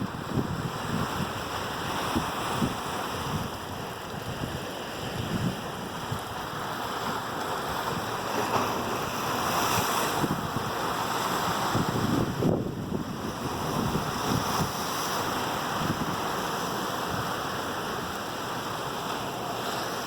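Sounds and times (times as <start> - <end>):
wind buffeting microphone: 0.0 - 6.7, 7.5 - 18.2
waves surging and breaking: 0.0 - 20.0.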